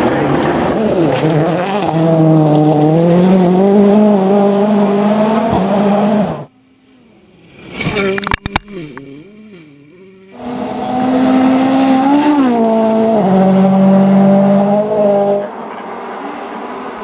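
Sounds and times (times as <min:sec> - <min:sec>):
rally car engines revving: 0:00.0 - 0:06.5, 0:07.3 - 0:17.0.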